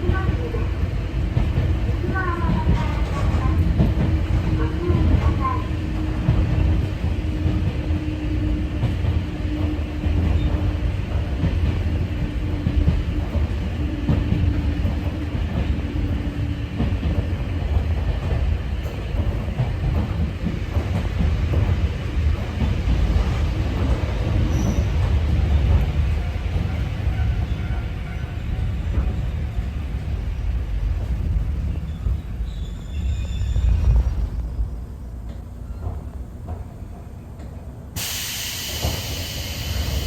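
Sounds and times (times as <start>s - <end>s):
steady train hum: 0.0s - 40.0s
train wheels rumbling on rails: 0.0s - 40.0s.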